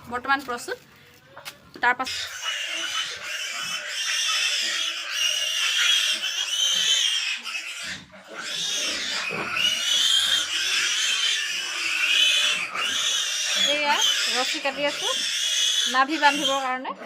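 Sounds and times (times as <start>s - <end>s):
pigs squealing: 1.9s - 17.0s.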